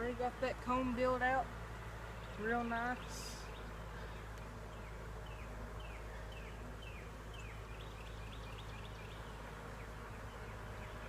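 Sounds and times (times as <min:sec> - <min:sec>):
honeybees humming: 0:00.0 - 0:11.0
songbird chirping: 0:00.0 - 0:11.0.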